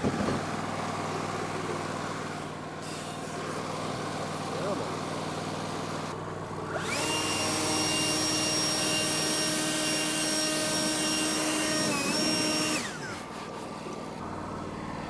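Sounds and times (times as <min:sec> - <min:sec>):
leaf blower whining: 0:00.0 - 0:15.0
sawmill engine idling: 0:00.0 - 0:15.0.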